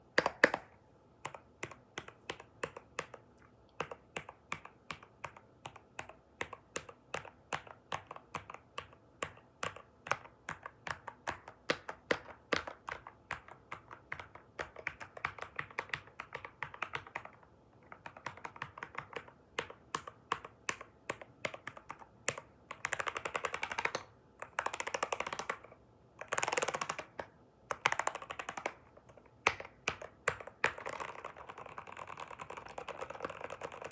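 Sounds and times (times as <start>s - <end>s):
keyboard typing: 0.2s - 33.9s.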